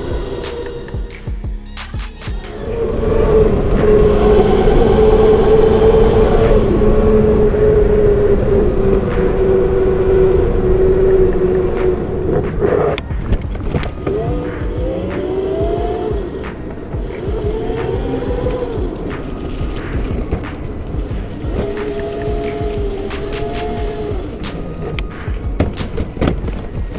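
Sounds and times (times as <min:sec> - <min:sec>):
rushing wind: 0:02.3 - 0:26.9
electric motor whining: 0:02.4 - 0:26.9.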